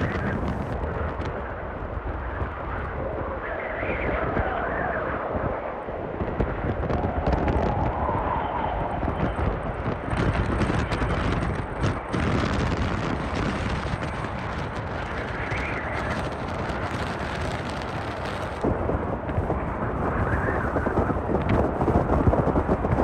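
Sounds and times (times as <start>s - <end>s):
strong gusting wind on microphone: 0.0s - 23.0s.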